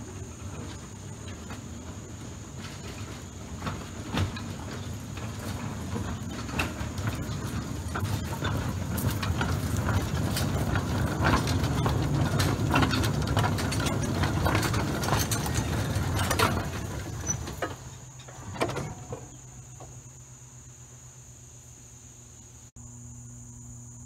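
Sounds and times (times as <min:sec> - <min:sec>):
train clanks: 0:00.0 - 0:20.1
small train rumbling on track: 0:00.0 - 0:20.2
wheels clacking over rail joints: 0:00.0 - 0:20.2.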